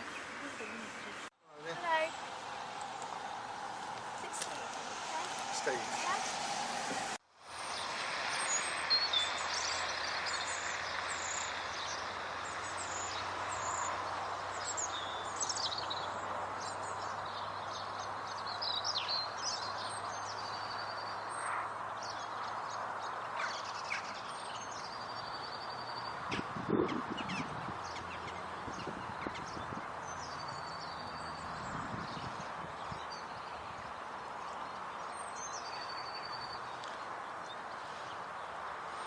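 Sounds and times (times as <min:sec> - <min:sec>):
small birds chirping: 0:07.6 - 0:39.0.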